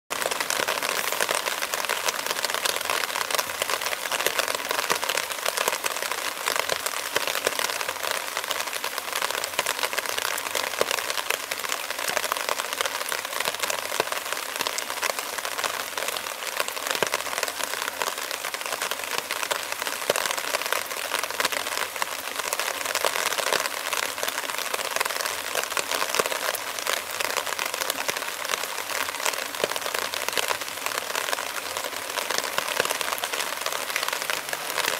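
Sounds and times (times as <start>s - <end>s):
torrential rain on water: 0.1s - 34.9s.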